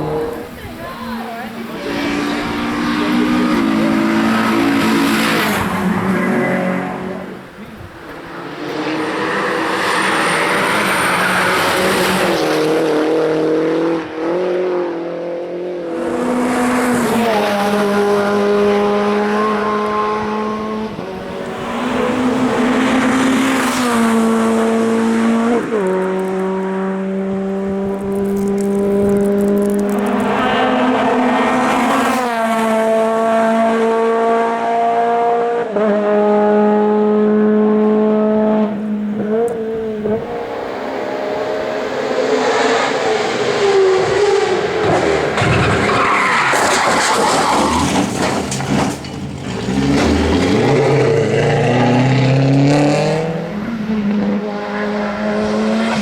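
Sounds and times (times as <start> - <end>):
race car engines accelerating: 0.0 - 56.0.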